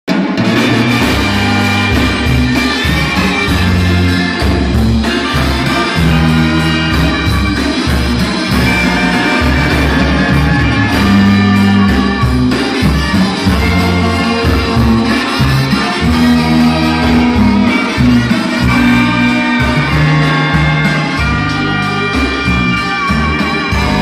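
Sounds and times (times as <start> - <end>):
bass line: 0.1 - 24.0
live band playing latin music: 0.1 - 24.0.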